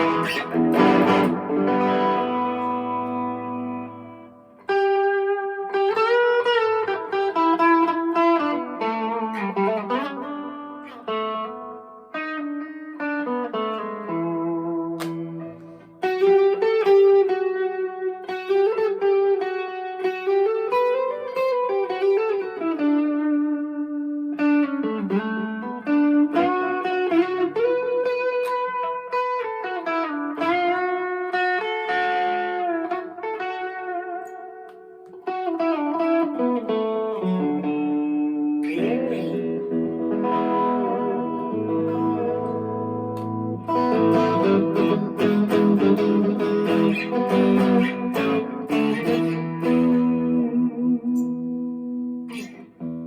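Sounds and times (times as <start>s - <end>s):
electric guitar through an amp: 0.0s - 53.0s.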